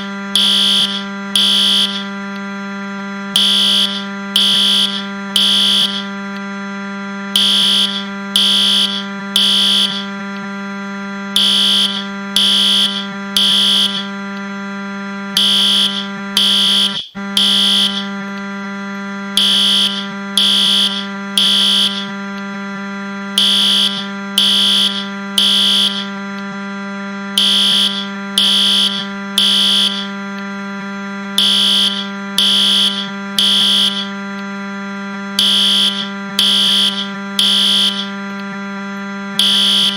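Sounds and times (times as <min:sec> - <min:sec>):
fire alarm beeping: 0:00.0 - 0:39.9
low buzzing drone: 0:00.0 - 0:39.9.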